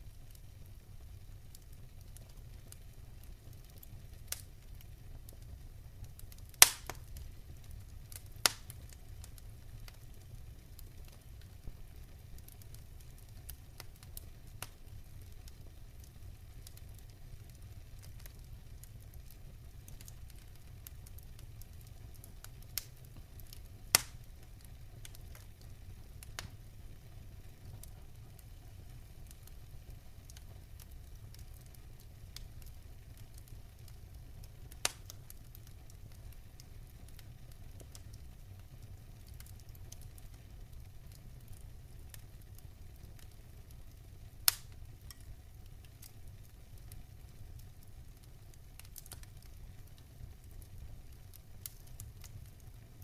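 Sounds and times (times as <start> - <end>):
sharp pops and crackles: 1.7 - 27.0, 27.6 - 40.9, 41.5 - 52.8.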